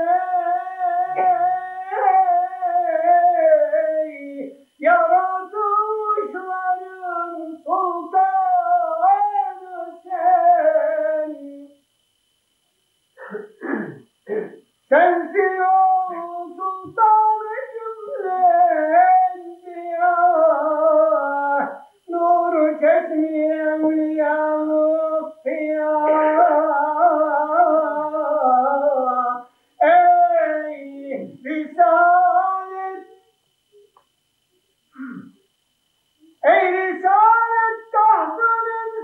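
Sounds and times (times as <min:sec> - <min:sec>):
person singing unaccompanied: 0:00.0 - 0:11.8, 0:13.2 - 0:33.9, 0:36.2 - 0:39.0.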